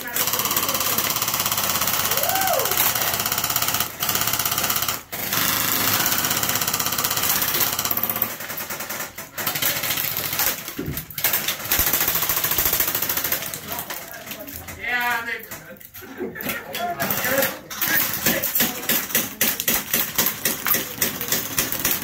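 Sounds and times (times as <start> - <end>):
airsoft guns firing on full auto: 0.0 - 14.0, 17.0 - 22.0.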